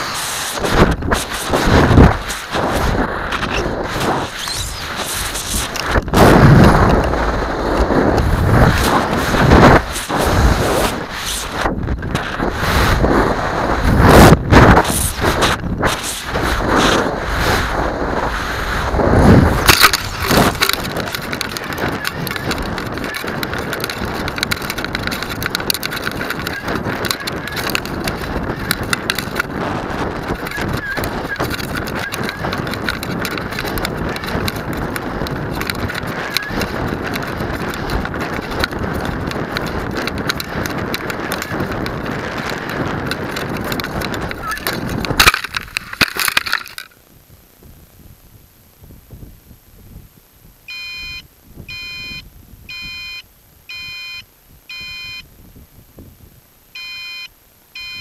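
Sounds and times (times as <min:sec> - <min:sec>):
crackling and rattling: 0:00.0 - 0:47.0
wind rushing over microphone: 0:00.0 - 0:56.6.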